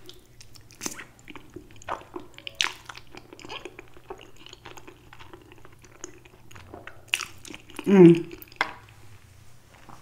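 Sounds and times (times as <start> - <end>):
wet chewing and smacking: 0.0 - 9.0.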